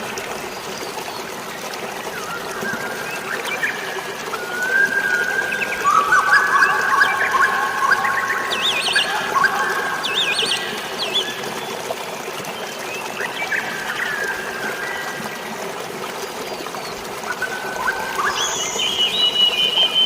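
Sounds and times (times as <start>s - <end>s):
water trickling and splashing: 0.0s - 20.0s
songbirds singing: 2.1s - 15.4s, 16.3s - 20.0s.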